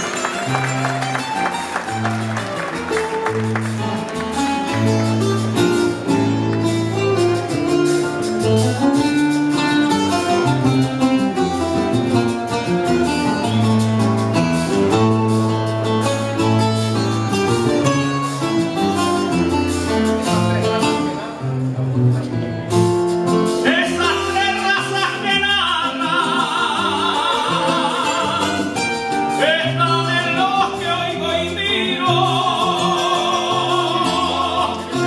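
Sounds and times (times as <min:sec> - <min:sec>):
plucked string instruments: 0:00.0 - 0:35.0.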